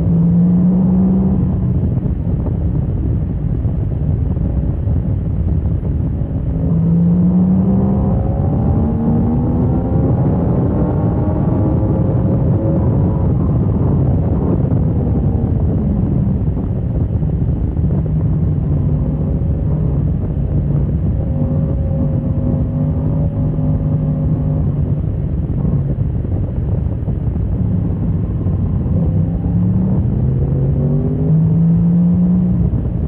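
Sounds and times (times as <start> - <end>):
wind rumble on microphone: 0.0 - 33.0.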